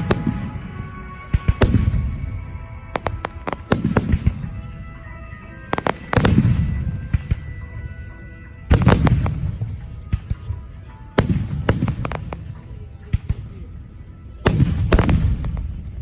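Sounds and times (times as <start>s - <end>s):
fireworks cracking and booming: 0.0s - 7.8s, 8.7s - 13.6s, 14.4s - 16.0s
music: 0.0s - 16.0s.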